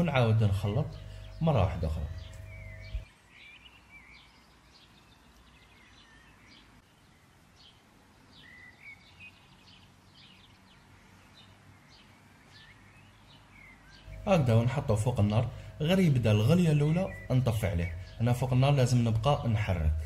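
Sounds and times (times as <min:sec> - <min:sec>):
faint bird chirps: 0:00.6 - 0:20.0.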